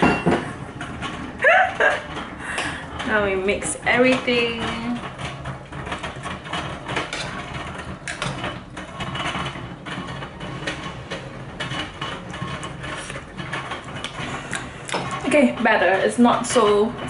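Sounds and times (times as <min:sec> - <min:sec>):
rice cooker rumbling and rattling: 0:00.0 - 0:17.0.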